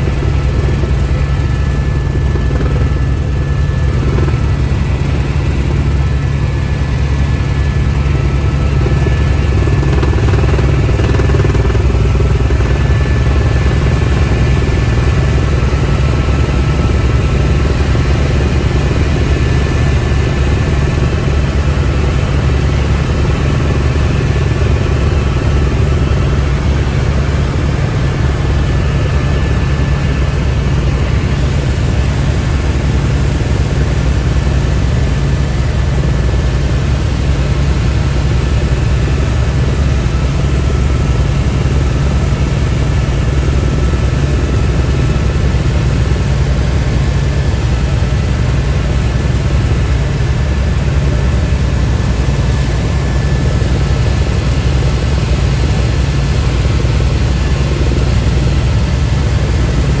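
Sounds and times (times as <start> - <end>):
helicopter rotor and engine drone: 0.0 - 60.0.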